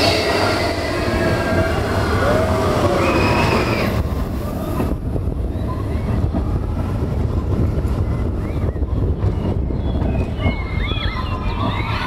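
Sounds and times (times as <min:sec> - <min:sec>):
roller coaster rumbling on track: 0:00.0 - 0:12.0
wind buffeting microphone: 0:00.0 - 0:12.0.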